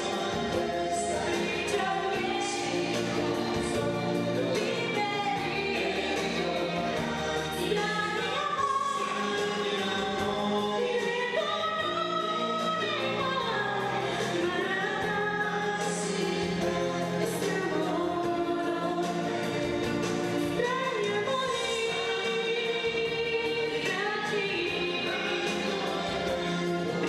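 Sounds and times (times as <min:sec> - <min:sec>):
woman singing into microphone: 0:00.0 - 0:19.5, 0:20.6 - 0:26.7
musical accompaniment: 0:00.0 - 0:27.0.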